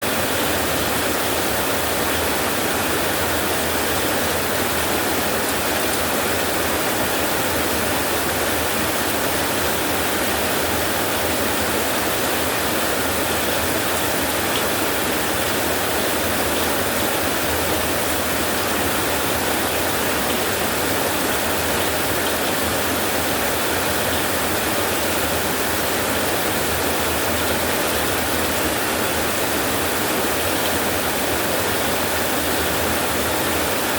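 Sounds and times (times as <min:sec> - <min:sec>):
steady rainfall hiss: 0:00.0 - 0:33.9.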